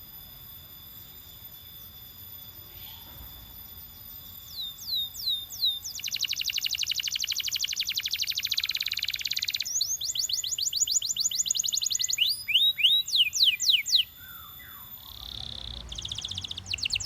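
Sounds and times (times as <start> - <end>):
canary singing: 1.3 - 17.0.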